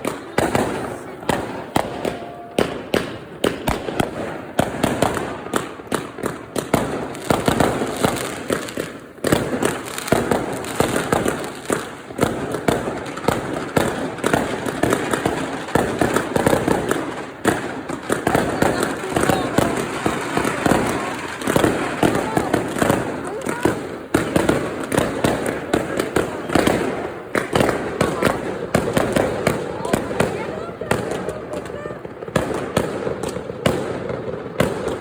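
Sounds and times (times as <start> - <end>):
fireworks and firecrackers banging: 0.0 - 35.0.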